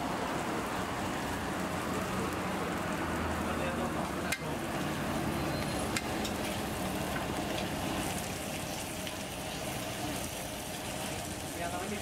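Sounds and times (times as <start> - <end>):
steaks sizzling on griddle: 0.0 - 12.0.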